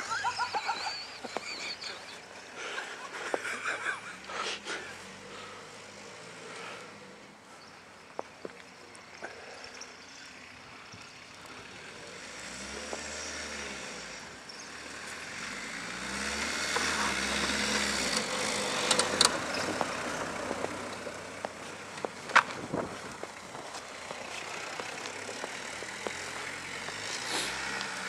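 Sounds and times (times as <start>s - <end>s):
van engine revving: 0.0s - 8.1s, 9.0s - 28.0s.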